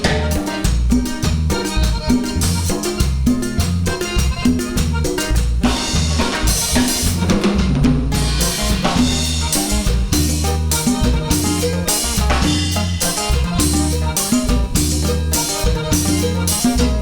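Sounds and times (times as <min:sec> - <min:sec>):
bass and chords: 0:00.0 - 0:17.0
drum kit beat: 0:00.0 - 0:17.0.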